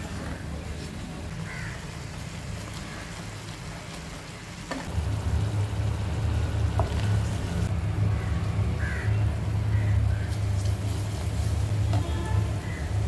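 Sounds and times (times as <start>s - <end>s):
jam sizzling and bubbling in a pan: 0.0s - 13.0s.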